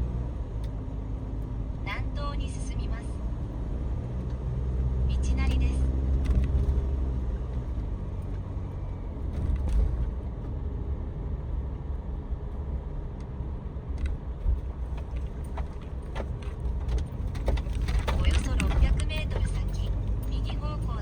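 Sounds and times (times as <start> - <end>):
van road and engine rumble: 0.0 - 21.0.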